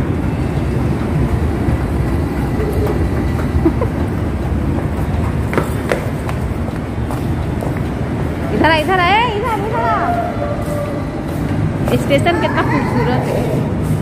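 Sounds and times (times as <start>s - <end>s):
low rumble of metro station: 0.0s - 14.0s.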